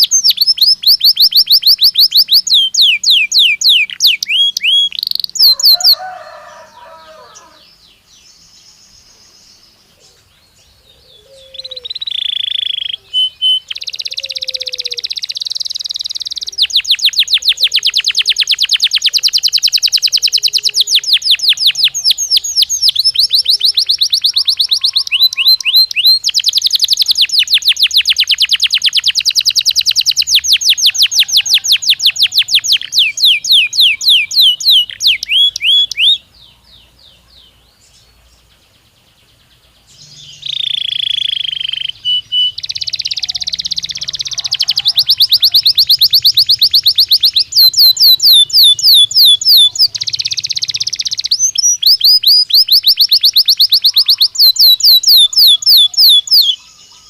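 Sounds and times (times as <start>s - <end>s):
canary trilling song: 0.0s - 57.0s.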